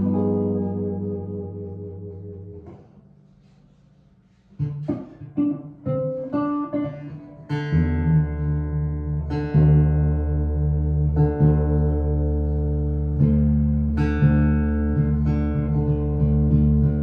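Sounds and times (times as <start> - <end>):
electric guitar chords ringing: 0.0 - 3.0, 4.8 - 17.0
electric guitar picked notes: 0.0 - 3.2, 4.6 - 17.0.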